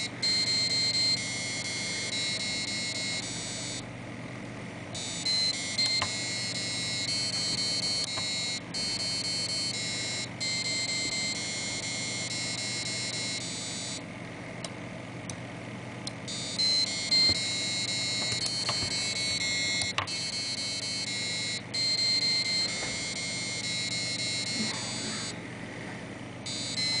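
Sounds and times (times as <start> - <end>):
buzzer beeping melody: 0.0 - 3.8, 5.0 - 14.0, 16.2 - 25.4, 26.4 - 27.0.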